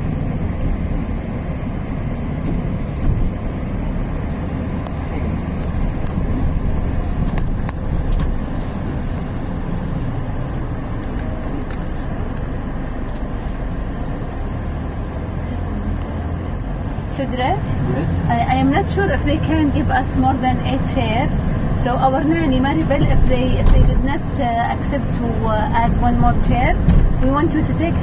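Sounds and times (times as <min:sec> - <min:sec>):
car driving along a street: 0:00.0 - 0:28.0.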